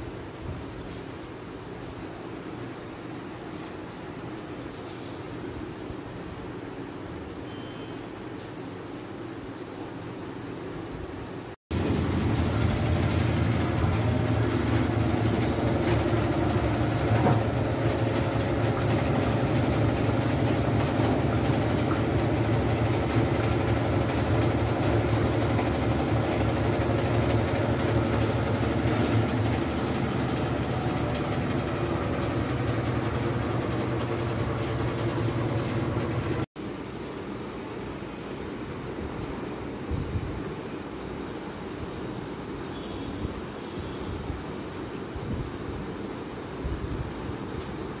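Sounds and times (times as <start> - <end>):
washing machine motor hum: 0.0 - 42.6.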